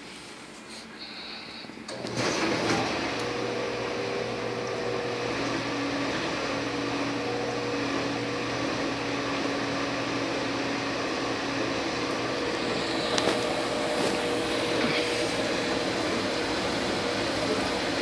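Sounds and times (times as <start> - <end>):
dishwasher pump humming: 1.8 - 18.0
water rushing inside dishwasher: 1.9 - 18.0.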